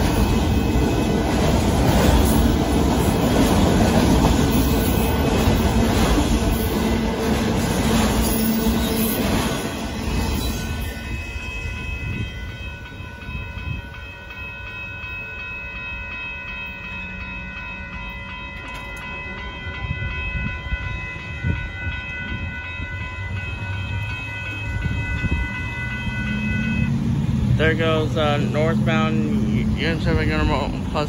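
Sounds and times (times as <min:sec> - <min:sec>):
crossing warning bell ringing: 0:00.0 - 0:31.0
freight train rumble: 0:00.0 - 0:31.0.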